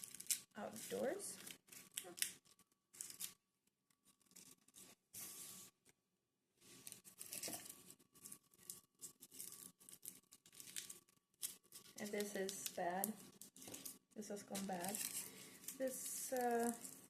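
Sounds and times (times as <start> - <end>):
papery skins crinkling and rustling: 0.0 - 6.0, 6.6 - 17.0.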